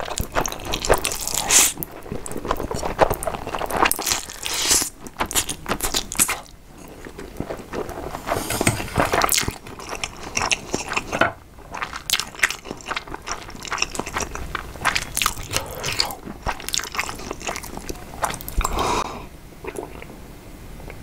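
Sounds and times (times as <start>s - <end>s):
crunching and chewing crisp food: 0.0s - 19.0s.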